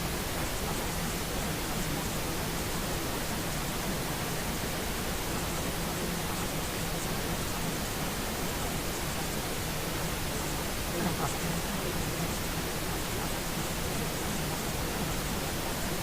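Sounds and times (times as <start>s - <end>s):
white noise hiss: 0.0s - 16.0s.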